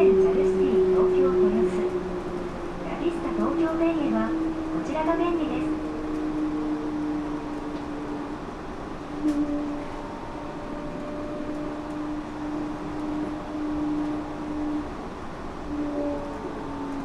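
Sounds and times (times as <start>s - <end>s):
train motor hum: 0.0s - 17.0s.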